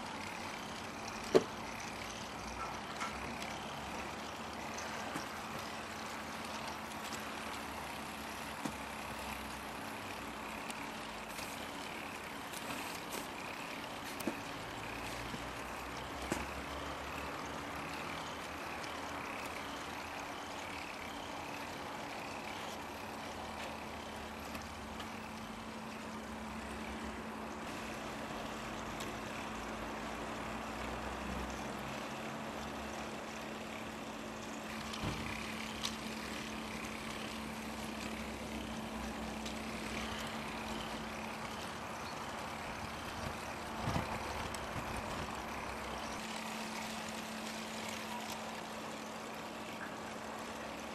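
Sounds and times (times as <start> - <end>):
plastic gears whirring clatter: 0.0 - 50.9
small electric motor humming: 0.0 - 50.9.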